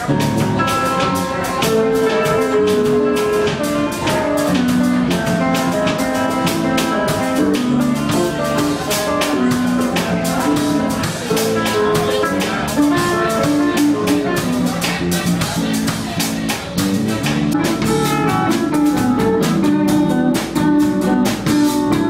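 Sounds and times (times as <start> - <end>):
live band playing bossa tune: 0.0 - 22.0.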